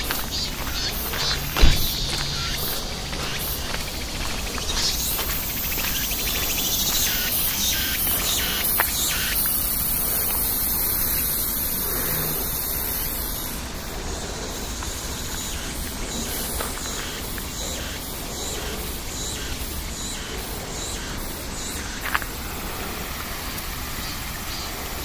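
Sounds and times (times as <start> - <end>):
background hiss: 0.0 - 25.0
insects chirring: 0.0 - 25.0.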